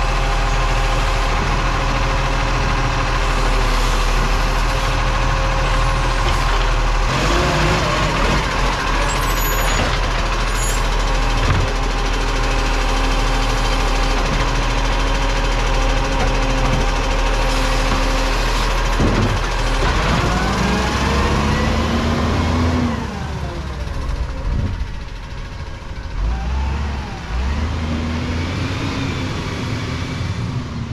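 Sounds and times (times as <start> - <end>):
garbage truck engine revving: 0.0 - 30.9.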